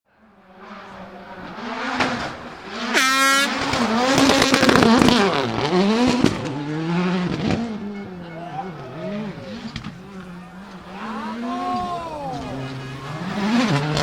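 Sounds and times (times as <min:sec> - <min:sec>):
rally car engine revving: 0:00.1 - 0:14.0.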